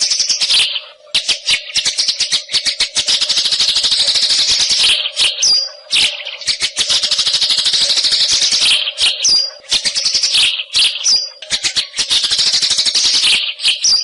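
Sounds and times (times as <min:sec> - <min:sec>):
bird singing chattering song: 0:00.0 - 0:14.0.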